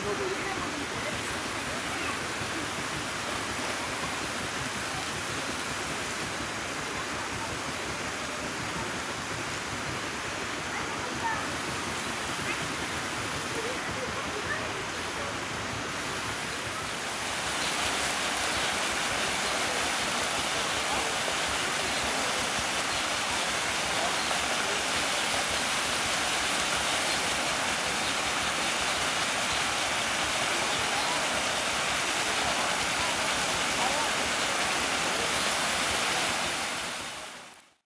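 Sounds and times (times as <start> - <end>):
fountain water running: 0.0 - 37.8.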